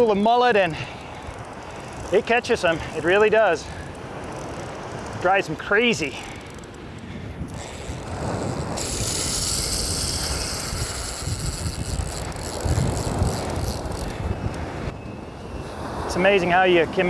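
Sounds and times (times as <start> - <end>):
low rumble of surf: 0.0 - 17.0
fishing reel drag buzzing: 0.7 - 14.8.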